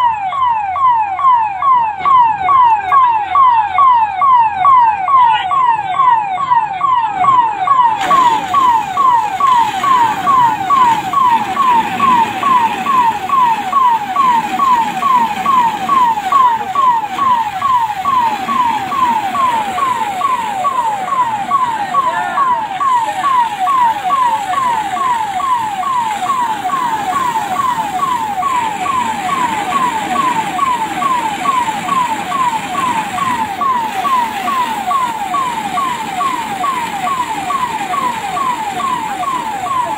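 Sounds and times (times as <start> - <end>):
fire engine electronic siren: 0.0 - 39.9.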